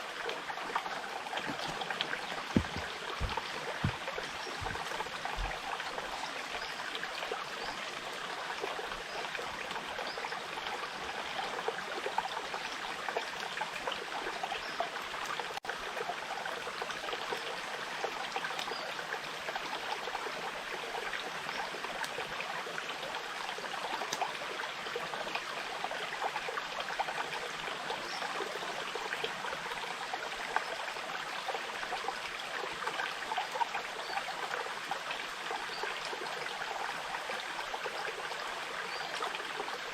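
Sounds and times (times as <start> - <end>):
stream babbling and trickling: 0.0 - 39.9.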